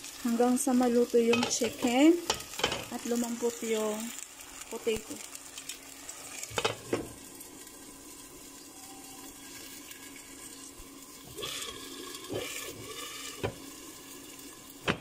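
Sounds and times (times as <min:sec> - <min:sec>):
food simmering in a pan: 0:00.0 - 0:15.0.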